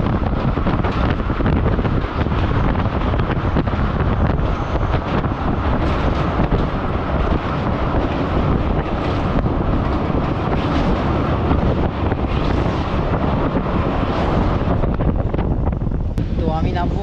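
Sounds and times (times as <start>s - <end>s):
train rumbling on rails: 0.0s - 17.0s
wind buffeting microphone: 0.0s - 17.0s.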